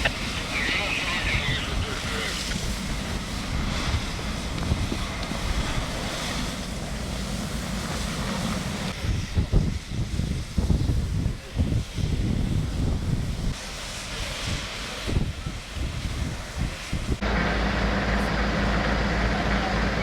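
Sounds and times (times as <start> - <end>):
wind buffeting microphone: 0.0 - 17.3.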